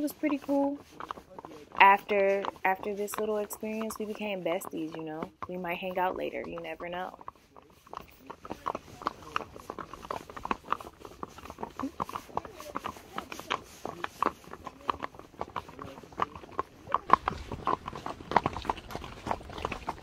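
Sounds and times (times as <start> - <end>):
horse hooves clopping: 0.0 - 20.0.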